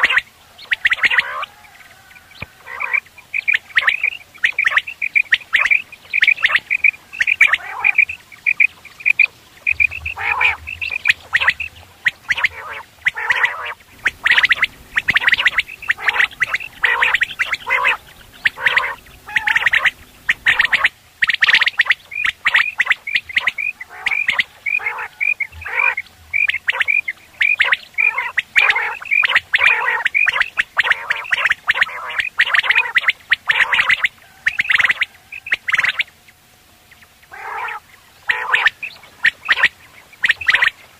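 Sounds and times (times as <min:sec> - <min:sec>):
quail calling: 0:00.0 - 0:40.9.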